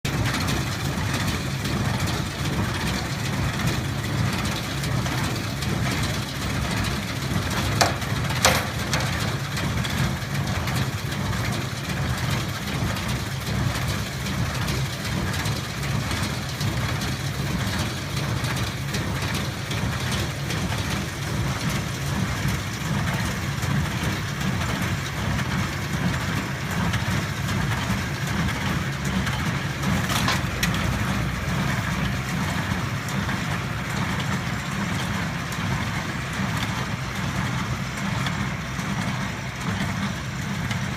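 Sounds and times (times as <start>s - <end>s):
tractor diesel engine running: 0.0s - 40.9s
baler working: 0.1s - 40.9s.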